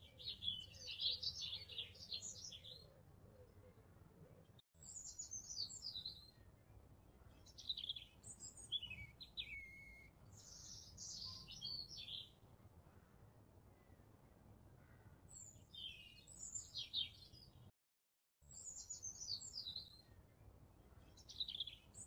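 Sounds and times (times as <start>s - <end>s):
faint songbird chirping: 0.0s - 17.7s, 18.4s - 22.0s.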